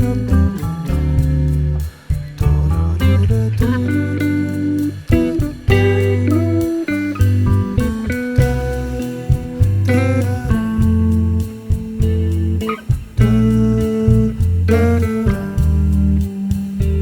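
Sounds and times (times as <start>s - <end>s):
guitar-led instrumental music: 0.0s - 17.0s.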